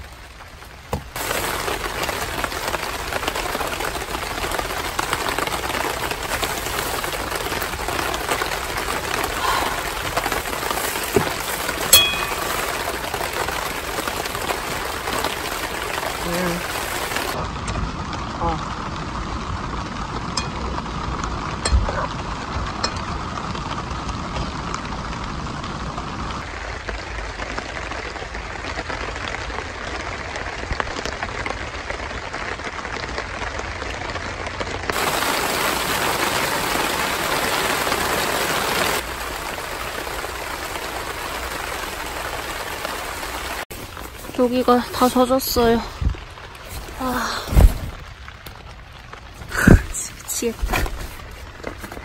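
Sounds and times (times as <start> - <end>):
rain on a tarp: 0.0 - 52.0.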